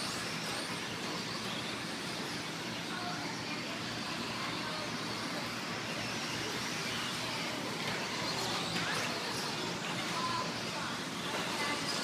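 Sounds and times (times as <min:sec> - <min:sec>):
electric toy trucks racing: 0:00.0 - 0:12.0.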